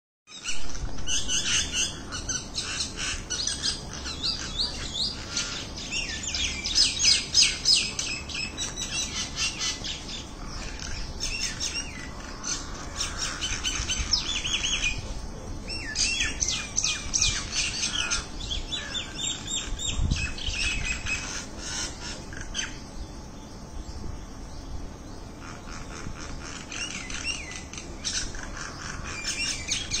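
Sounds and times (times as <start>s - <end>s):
flock of birds chirping: 0.3s - 30.0s.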